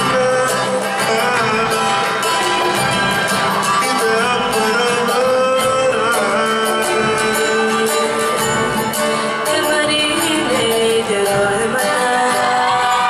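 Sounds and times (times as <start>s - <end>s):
steady beat: 0.0s - 13.0s
strummed guitar and ukulele: 0.0s - 13.0s.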